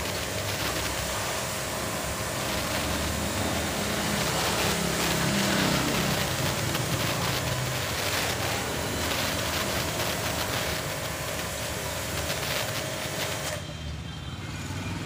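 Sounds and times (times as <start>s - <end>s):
pressure washer spray hiss: 0.0s - 13.6s.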